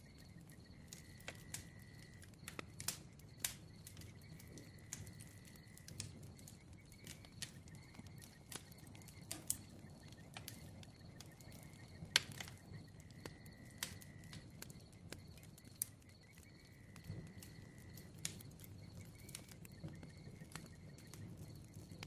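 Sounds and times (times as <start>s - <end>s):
bonfire crackling and popping: 0.0s - 22.0s
low rumble of flames: 0.0s - 22.0s.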